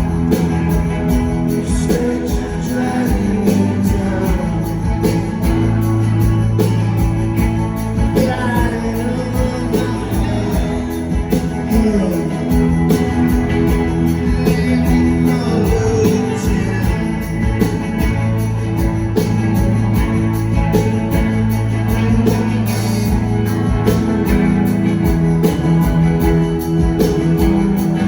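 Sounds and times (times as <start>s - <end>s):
jingling percussion: 0.0s - 28.0s
live rock band playing: 0.0s - 28.0s.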